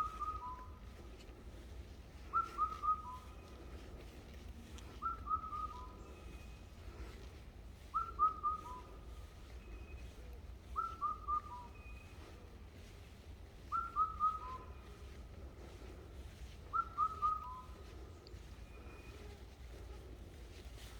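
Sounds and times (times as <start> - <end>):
faint low rumble: 0.0 - 13.9, 14.6 - 20.9.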